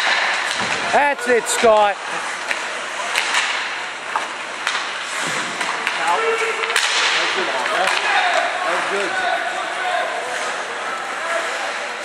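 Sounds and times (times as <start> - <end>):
crowd noise: 0.0 - 12.0
hockey sticks clacking puck: 0.0 - 12.0.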